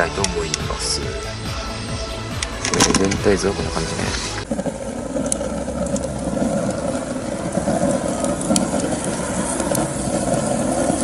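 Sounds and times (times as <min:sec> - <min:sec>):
burning wood crackles: 0:00.0 - 0:11.0
stove fire rumbling draught: 0:00.0 - 0:11.0.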